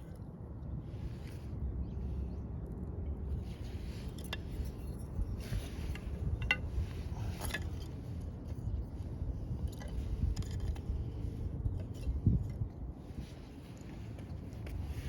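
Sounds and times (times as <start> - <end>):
low rumble of fire: 0.0 - 15.0.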